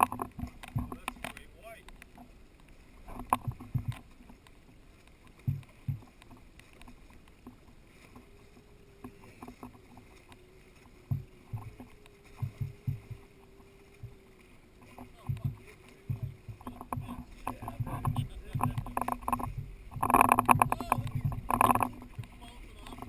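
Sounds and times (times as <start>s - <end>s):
muffled knocks and thumps: 0.0s - 1.4s, 3.0s - 4.4s, 5.3s - 10.1s, 11.0s - 14.2s, 14.8s - 23.0s
faint steady hum: 0.0s - 23.0s.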